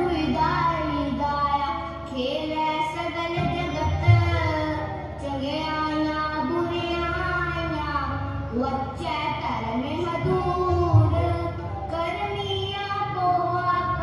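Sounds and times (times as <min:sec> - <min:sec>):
instrumental accompaniment with drone: 0:00.0 - 0:14.0.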